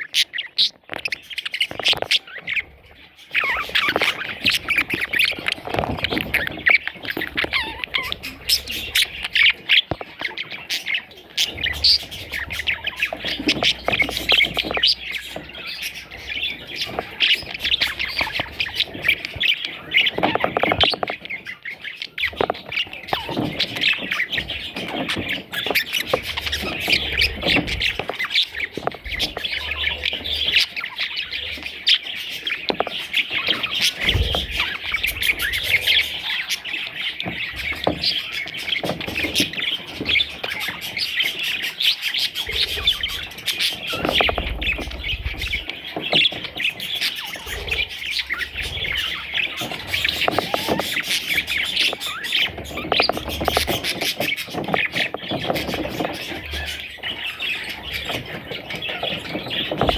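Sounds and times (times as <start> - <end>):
budgerigar chicks squawking: 0.0 - 59.9.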